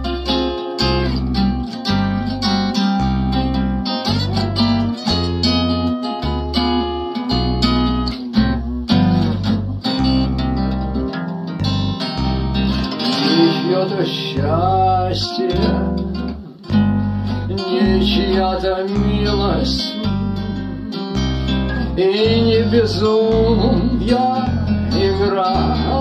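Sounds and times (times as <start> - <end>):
acoustic guitar plucked and strummed: 0.0 - 26.0
deep low notes: 0.0 - 26.0.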